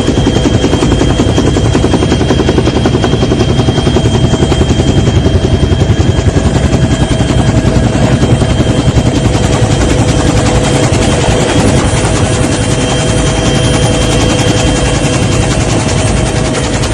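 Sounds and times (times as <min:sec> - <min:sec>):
helicopter rotor chopping: 0:00.0 - 0:16.9
helicopter whine: 0:00.0 - 0:16.9.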